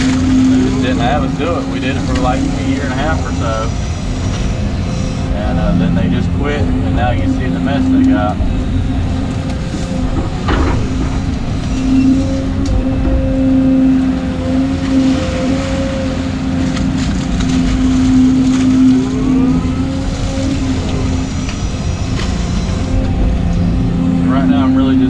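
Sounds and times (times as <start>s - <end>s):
excavator engine and hydraulics: 0.0s - 25.0s
hydraulic whines rising: 0.0s - 25.0s.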